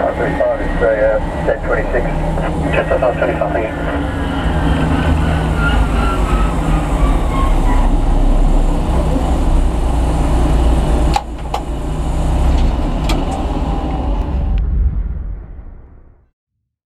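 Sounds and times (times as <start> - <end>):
jet engines rumbling and whining: 0.0 - 16.2.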